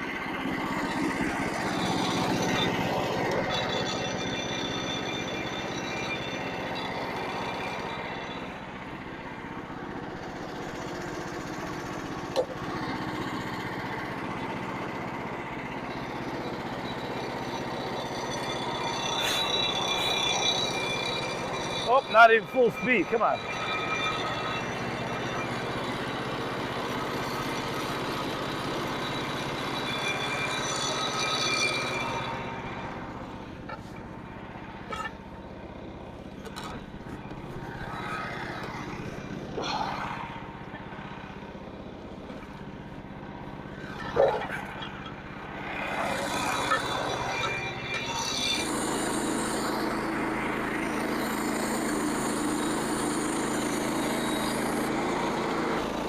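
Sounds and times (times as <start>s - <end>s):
small gas engine running: 0.0s - 56.0s.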